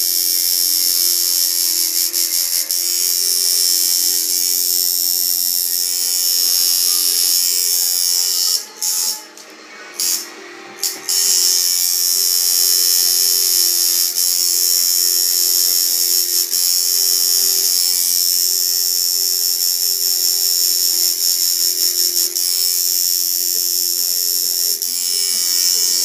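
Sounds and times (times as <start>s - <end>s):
tattoo machine buzzing: 0.0s - 9.4s, 10.0s - 26.0s.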